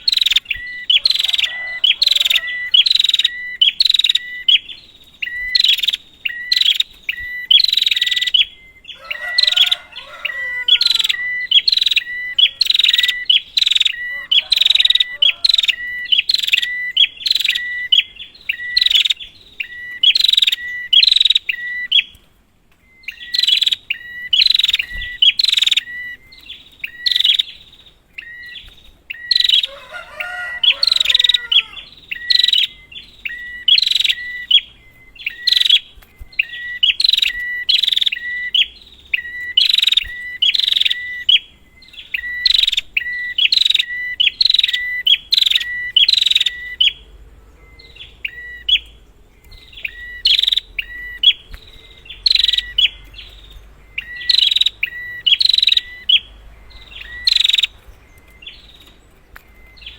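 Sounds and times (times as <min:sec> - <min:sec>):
bird ringing chirps: 0:00.0 - 0:59.9
lower bird chatter: 0:00.0 - 0:59.9.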